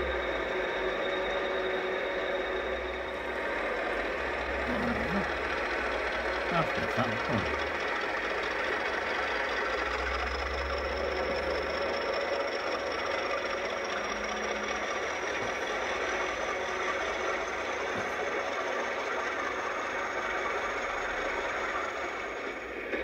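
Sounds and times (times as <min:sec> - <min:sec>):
diesel locomotive engine running: 0:00.0 - 0:23.0
train coaches rolling past: 0:00.0 - 0:23.0.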